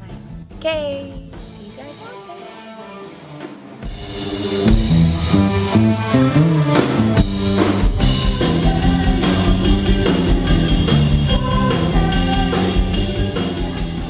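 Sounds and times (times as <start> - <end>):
band music with drums and guitar: 0.0 - 14.0.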